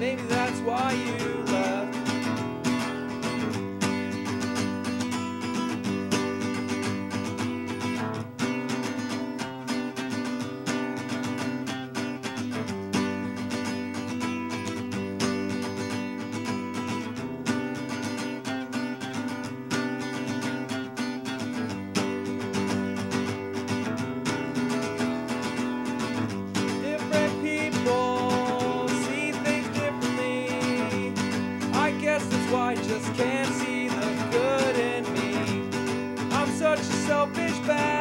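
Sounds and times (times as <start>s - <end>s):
acoustic guitar strumming chords: 0.0s - 38.0s.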